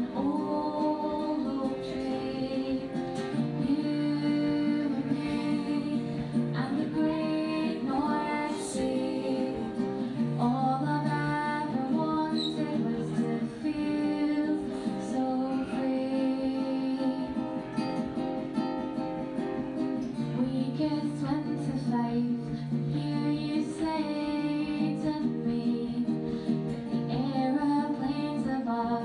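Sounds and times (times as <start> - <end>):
woman singing a folk song: 0.0 - 18.5, 19.6 - 29.0
strummed acoustic guitar: 0.0 - 29.0.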